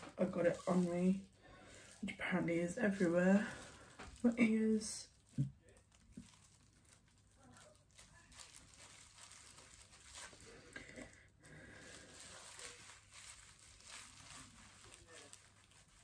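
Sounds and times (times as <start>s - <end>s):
plastic cape crinkling: 0.0s - 16.0s.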